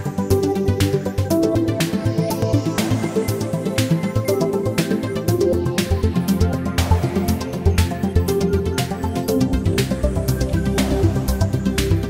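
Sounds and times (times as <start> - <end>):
background music with beat and bass: 0.0 - 12.0.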